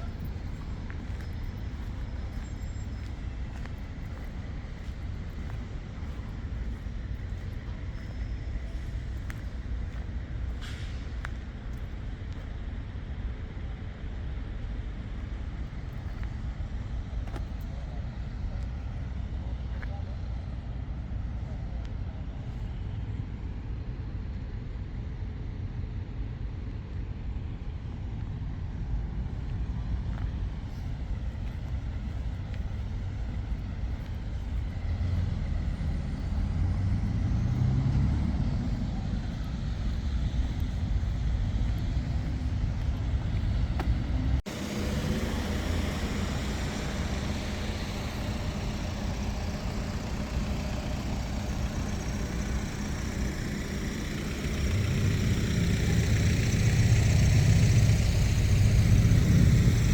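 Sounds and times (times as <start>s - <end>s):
vehicle engine and tyre rumble: 0.0s - 59.9s.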